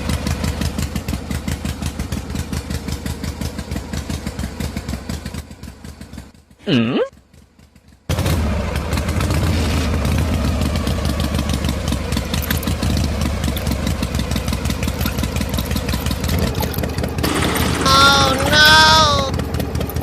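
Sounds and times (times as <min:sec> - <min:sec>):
small diesel pump engine running: 0:00.0 - 0:06.5, 0:07.2 - 0:20.0.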